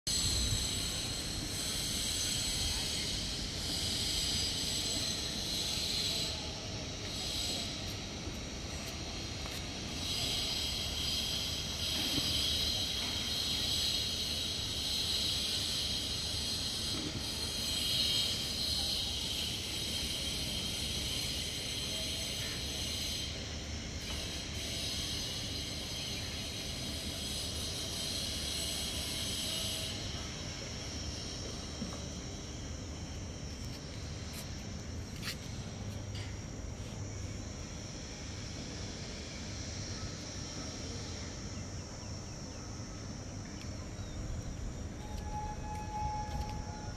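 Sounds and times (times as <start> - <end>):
faint high whine: 0.1 - 46.9
high-pitched insect chirring: 0.1 - 46.9
hiss and low hum: 0.1 - 46.9.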